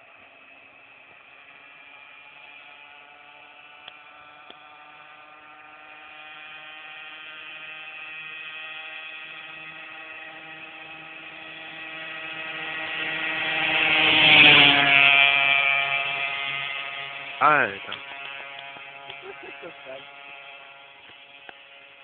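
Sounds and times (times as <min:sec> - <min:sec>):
distant moped engine droning: 0:00.0 - 0:22.0.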